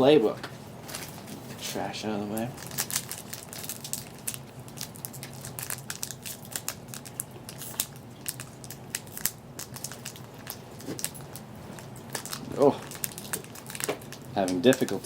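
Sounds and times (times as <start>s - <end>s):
plastic wrappers crinkling: 0.8s - 15.0s.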